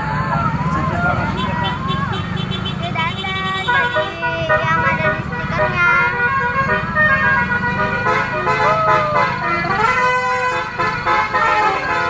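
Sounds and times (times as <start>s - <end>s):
bus engines rumbling: 0.0s - 12.0s
bus horns playing melodies: 0.6s - 12.0s.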